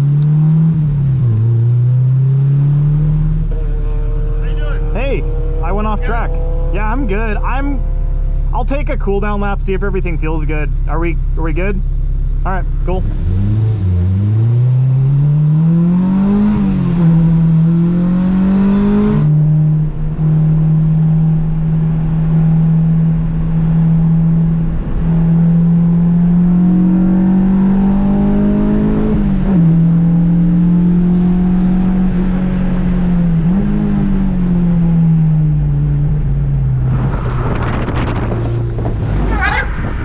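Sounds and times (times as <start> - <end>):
car engine revving and upshifting: 0.0 - 8.5, 12.9 - 40.0.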